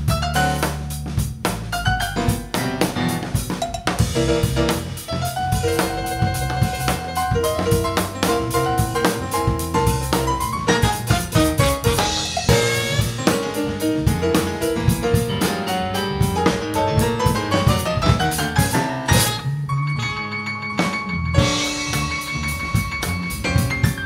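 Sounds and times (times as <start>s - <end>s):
drum-kit groove: 0.0s - 19.5s, 20.8s - 24.0s
electric bass: 0.0s - 24.0s
jazz-funk band playing: 0.0s - 24.0s.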